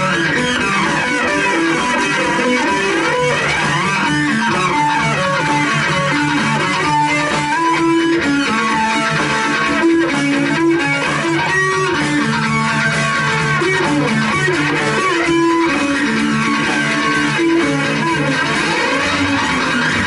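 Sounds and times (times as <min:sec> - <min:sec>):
bass guitar: 0:00.0 - 0:20.0
drums: 0:00.0 - 0:20.0
electric guitar melody with bends: 0:00.0 - 0:20.0.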